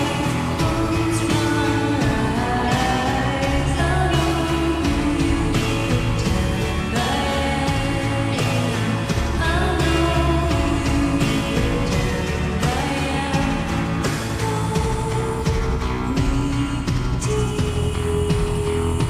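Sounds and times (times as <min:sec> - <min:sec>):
slowed reverb-heavy indie pop song: 0:00.0 - 0:19.0
woman singing: 0:00.0 - 0:19.0.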